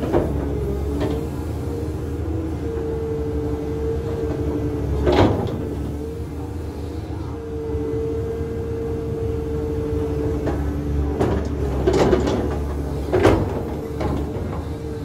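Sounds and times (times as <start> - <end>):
excavator engine humming: 0.0 - 15.0.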